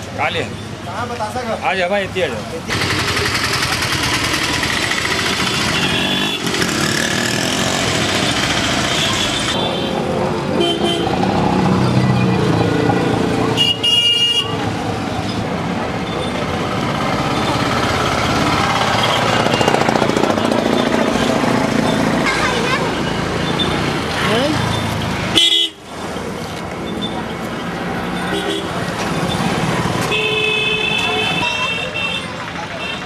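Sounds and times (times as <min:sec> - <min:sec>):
motorcycle and vehicle engines: 0:00.0 - 0:33.0.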